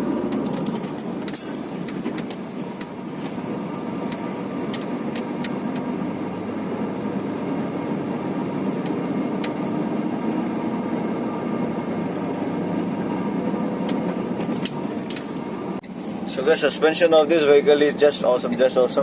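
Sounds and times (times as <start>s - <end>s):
truck diesel engine: 0.0s - 19.0s.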